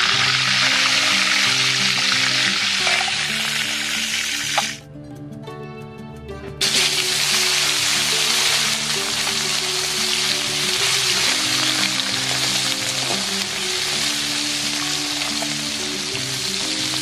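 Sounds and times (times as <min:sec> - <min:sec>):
oil sizzling in a wok: 0:00.0 - 0:04.8, 0:06.6 - 0:17.0
background music: 0:00.0 - 0:17.0.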